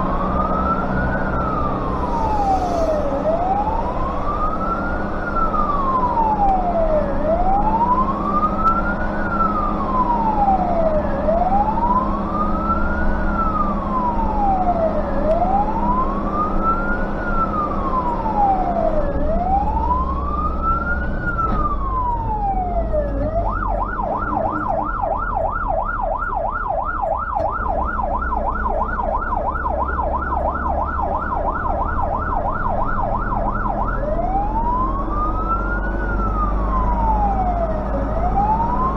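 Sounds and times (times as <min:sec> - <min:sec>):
fire truck siren wailing and yelping: 0:00.0 - 0:38.9
truck engine rumble: 0:00.0 - 0:38.9.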